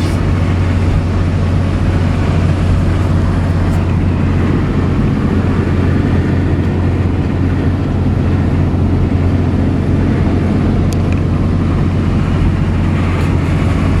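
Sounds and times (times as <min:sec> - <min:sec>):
diesel engine drone inside cab: 0:00.0 - 0:14.0
road and tyre noise: 0:00.0 - 0:14.0.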